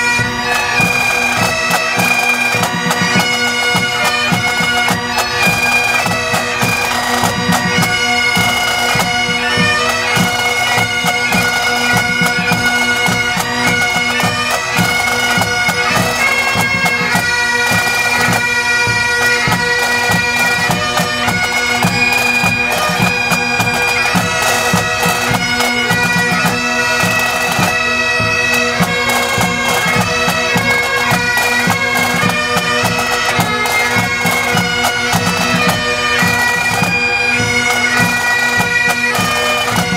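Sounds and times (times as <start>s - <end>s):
bagpipes playing over drones: 0.0s - 39.9s
drums beating: 0.0s - 39.9s.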